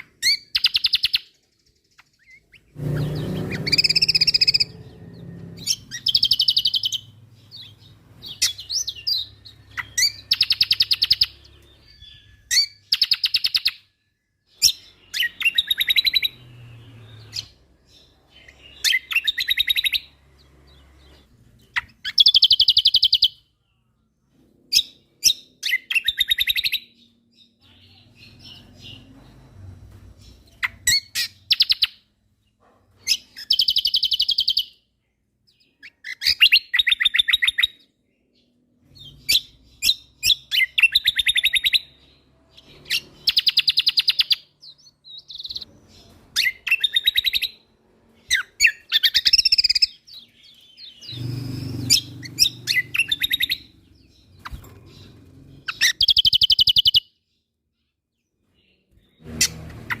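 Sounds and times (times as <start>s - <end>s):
bird singing rattling trills: 0.0s - 23.9s, 24.7s - 34.8s, 35.5s - 57.4s.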